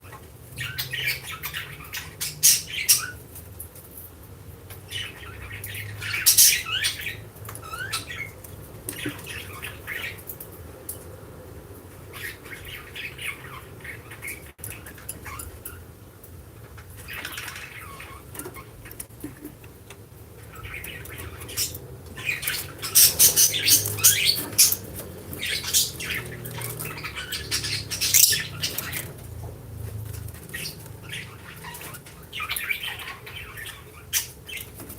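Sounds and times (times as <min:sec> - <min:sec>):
lovebirds squawking and chirping: 0:00.0 - 0:03.4, 0:04.7 - 0:10.6, 0:12.0 - 0:15.9, 0:16.7 - 0:19.5, 0:20.4 - 0:29.3, 0:30.1 - 0:34.9.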